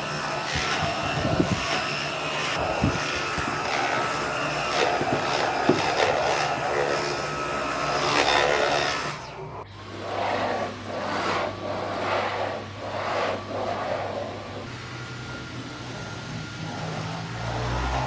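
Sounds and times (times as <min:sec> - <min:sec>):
motor whir: 0:00.0 - 0:18.0.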